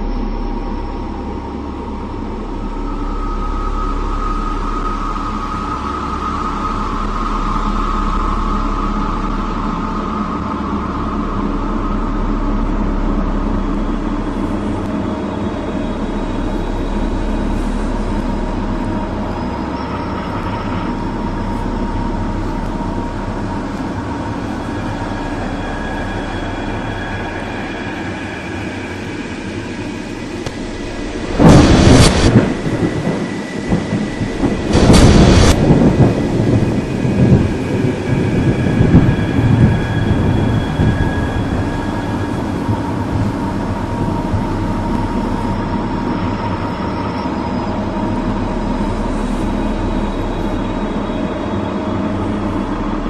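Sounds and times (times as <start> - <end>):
dense rumbling noise: 0.0 - 53.0.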